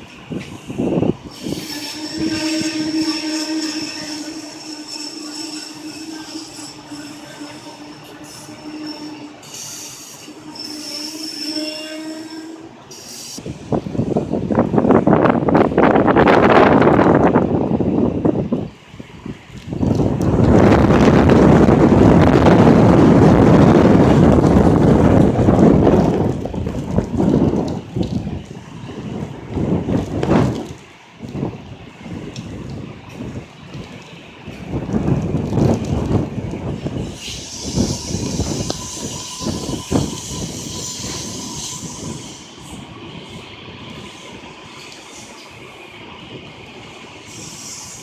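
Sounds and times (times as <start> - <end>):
wind gust buffeting microphone: 0.0 - 10.5, 13.3 - 48.0
train rumbling past: 0.0 - 48.0.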